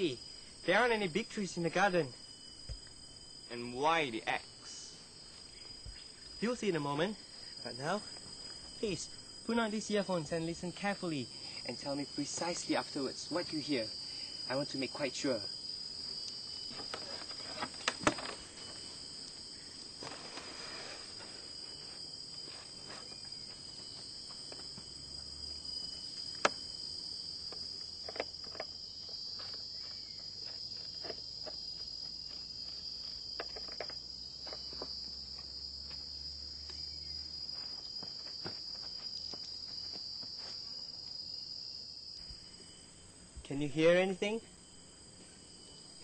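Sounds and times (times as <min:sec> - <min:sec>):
insects chirping: 0:00.0 - 0:46.0.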